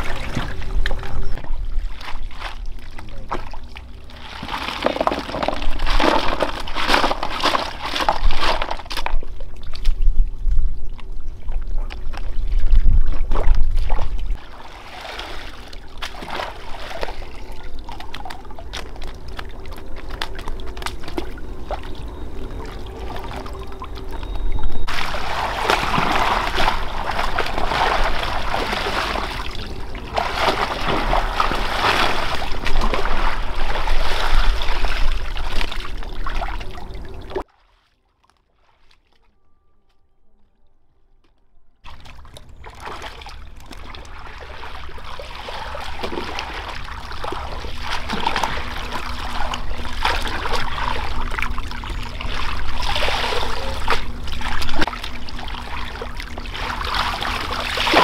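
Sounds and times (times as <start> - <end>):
water splashing and trickling: 0.0 - 39.3, 41.8 - 58.0.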